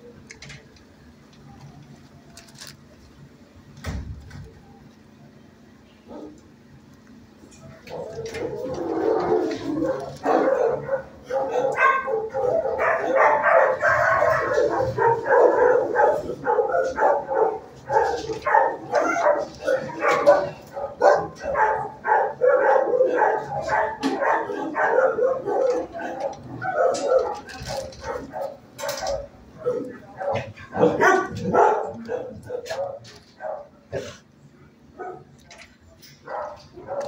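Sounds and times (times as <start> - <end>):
many dogs barking: 6.1 - 6.4, 7.6 - 37.0.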